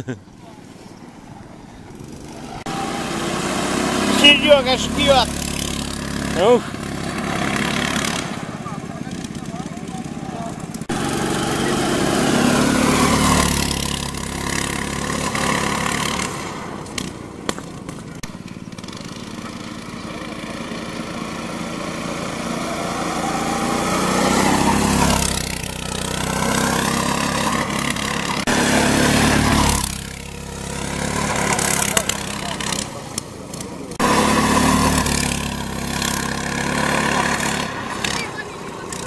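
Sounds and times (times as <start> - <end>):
go-kart engines passing: 0.0 - 39.0.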